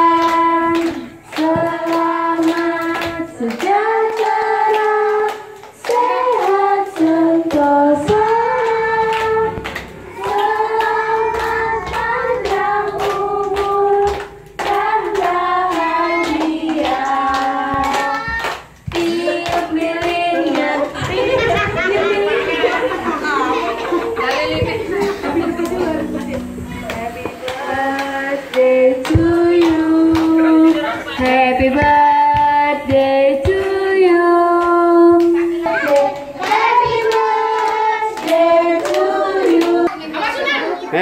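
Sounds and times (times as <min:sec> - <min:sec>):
hands clapping along: 0:00.0 - 0:21.8, 0:24.2 - 0:40.0
children and women singing: 0:00.0 - 0:41.0.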